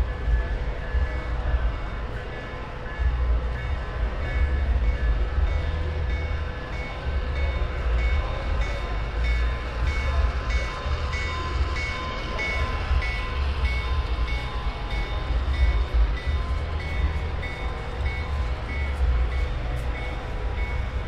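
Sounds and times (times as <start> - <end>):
model train rolling: 0.0 - 21.0.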